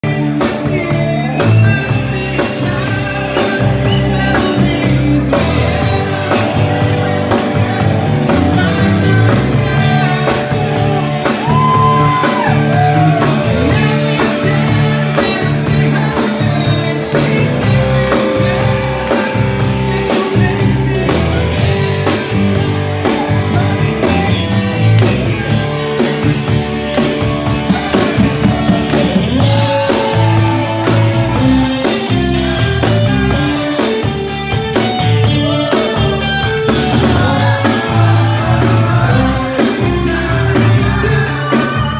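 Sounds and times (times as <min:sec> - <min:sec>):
live band playing: 0:00.0 - 0:41.9
person singing: 0:00.0 - 0:41.9
steady drum beat: 0:00.0 - 0:41.9.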